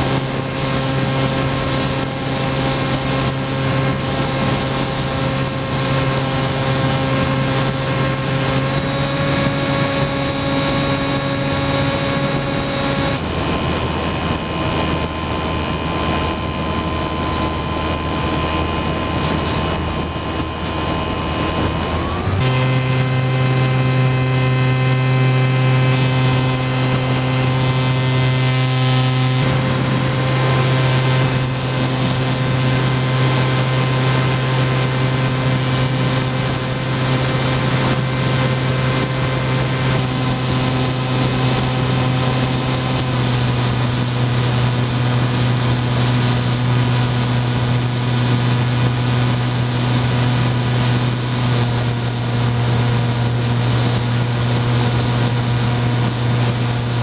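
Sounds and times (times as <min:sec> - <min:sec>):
model plane motor humming: 0:00.0 - 0:57.0.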